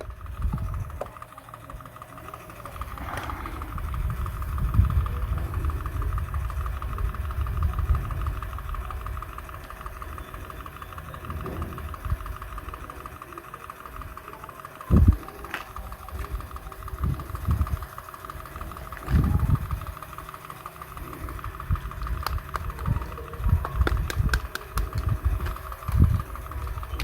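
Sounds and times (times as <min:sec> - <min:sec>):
small motor humming: 0:00.0 - 0:27.0.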